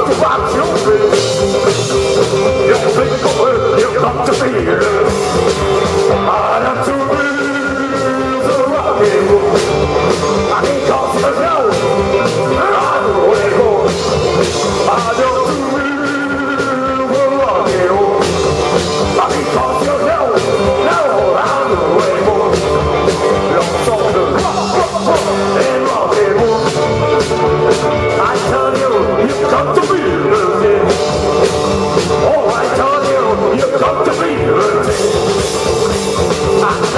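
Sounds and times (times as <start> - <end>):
rock band playing: 0.0 - 36.9.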